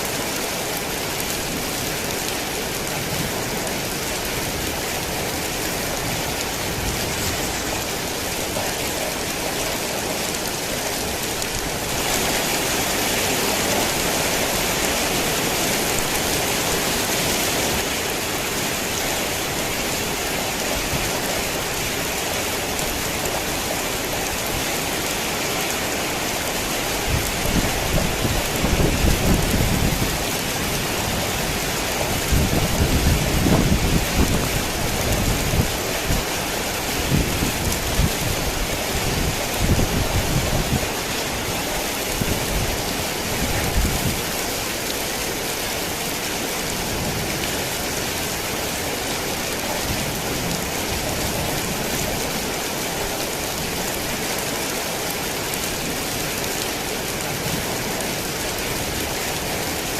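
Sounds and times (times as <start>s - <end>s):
heavy rain downpour: 0.0s - 59.9s.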